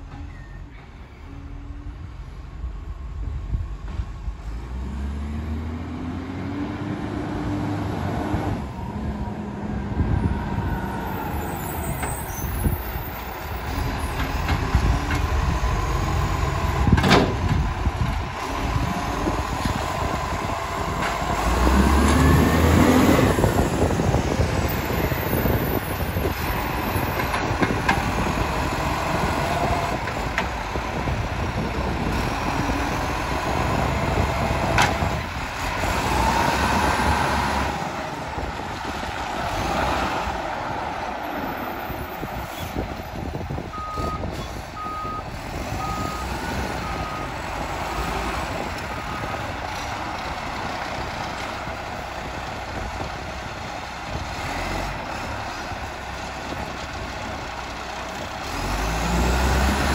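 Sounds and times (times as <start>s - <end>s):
garbage truck diesel engine: 0.0s - 59.9s.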